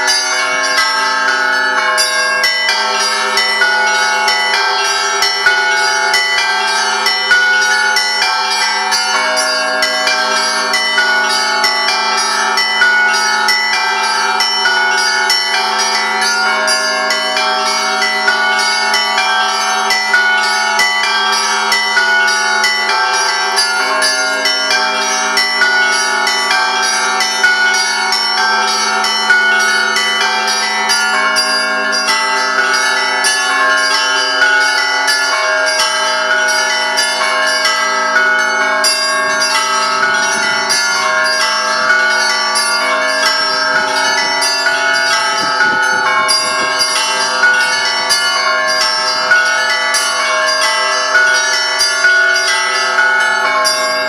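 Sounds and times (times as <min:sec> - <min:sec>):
church bells ringing a peal: 0:00.0 - 0:54.0.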